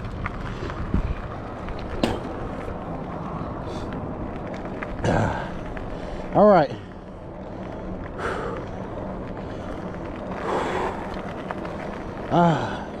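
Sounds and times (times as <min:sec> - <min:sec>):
road rumble: 0:00.0 - 0:13.0
wind rush on microphone: 0:00.0 - 0:13.0.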